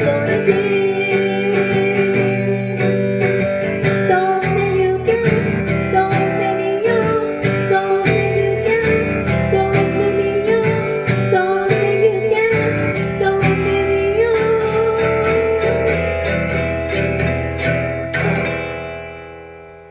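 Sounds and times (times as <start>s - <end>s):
acoustic guitar strumming: 0.0s - 19.9s
held melody line: 0.0s - 19.9s.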